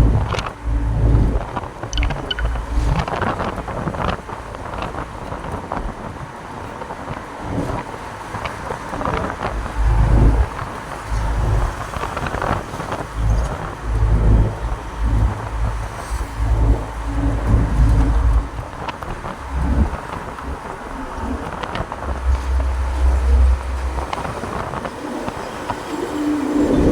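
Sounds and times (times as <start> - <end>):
truck engine and road rumble: 0.0 - 26.9.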